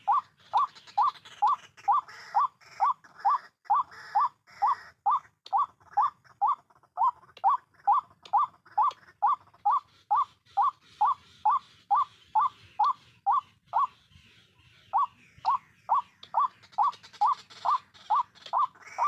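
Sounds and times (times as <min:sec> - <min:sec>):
waterhen calling: 0:00.0 - 0:19.0.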